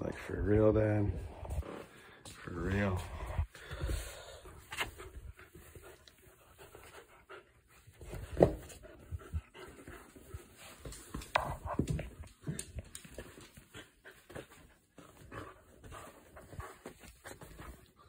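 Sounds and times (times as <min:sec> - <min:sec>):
dog panting: 0:01.2 - 0:18.0.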